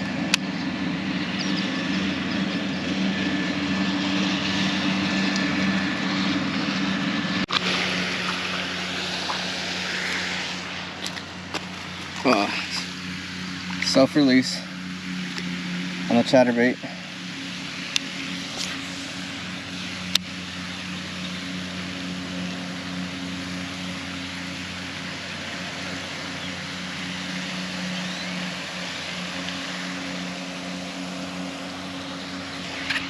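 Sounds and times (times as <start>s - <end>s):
distant engine drone: 0.0s - 33.0s.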